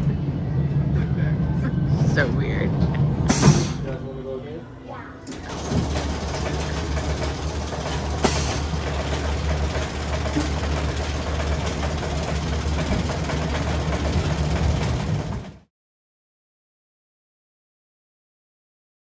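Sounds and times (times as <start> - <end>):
ride drive mechanical hum: 0.0 - 15.6.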